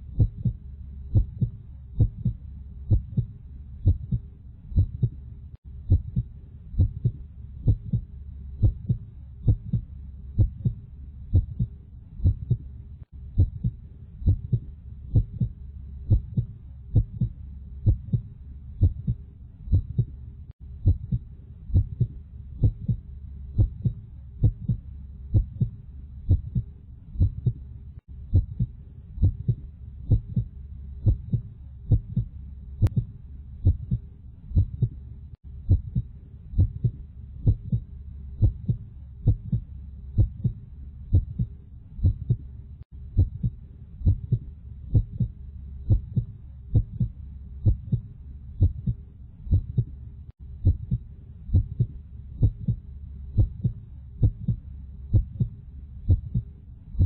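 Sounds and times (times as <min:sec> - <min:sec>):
heartbeat thumping: 0:00.0 - 0:27.6, 0:28.3 - 0:35.0, 0:35.6 - 0:42.5, 0:43.1 - 0:57.0
low hum: 0:00.0 - 0:57.0.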